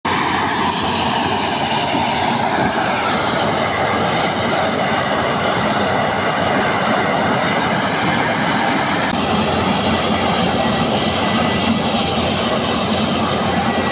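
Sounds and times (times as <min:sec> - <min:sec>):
combine harvester running: 0:00.1 - 0:13.9.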